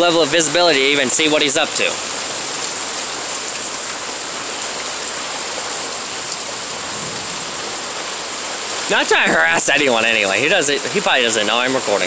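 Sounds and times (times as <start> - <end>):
rain pouring down: 0.0 - 12.0.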